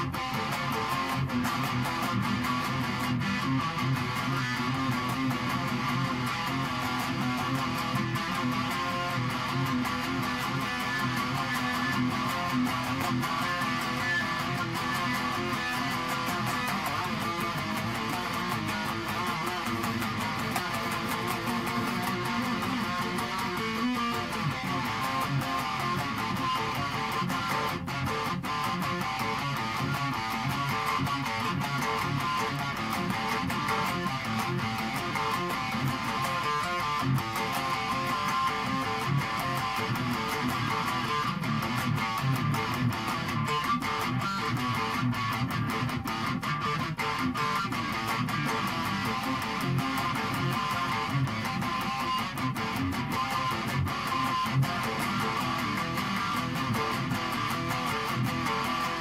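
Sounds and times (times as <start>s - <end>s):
electric guitar rock riff: 0.0s - 59.0s.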